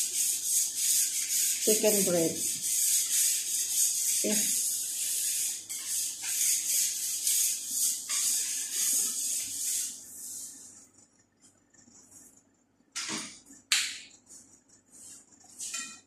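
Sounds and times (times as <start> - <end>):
scratchy rubbing strokes: 0.0 - 12.5, 14.1 - 15.8.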